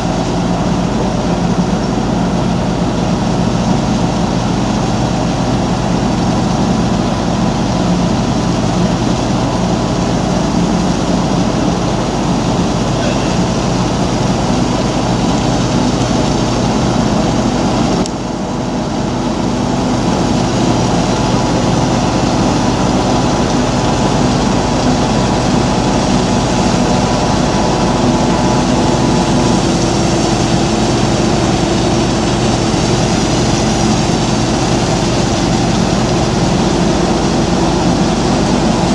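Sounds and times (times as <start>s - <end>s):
heavy engine droning: 0.0s - 38.9s.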